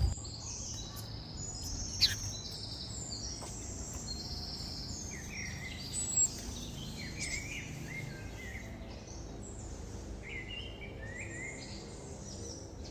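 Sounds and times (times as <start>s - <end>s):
low background noise: 0.0s - 12.9s
small birds chirping: 0.0s - 12.9s.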